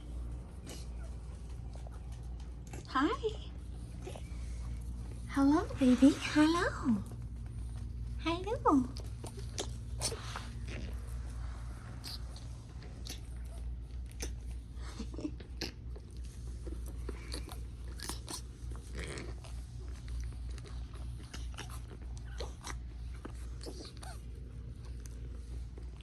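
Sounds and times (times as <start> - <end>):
puppies chewing: 0.0 - 26.0
steady low hum: 0.0 - 26.0.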